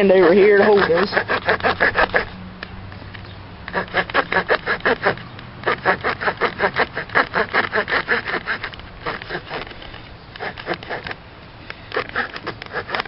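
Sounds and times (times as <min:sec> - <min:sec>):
small saw cutting log: 0:00.0 - 0:02.8, 0:03.6 - 0:11.2, 0:11.8 - 0:13.0.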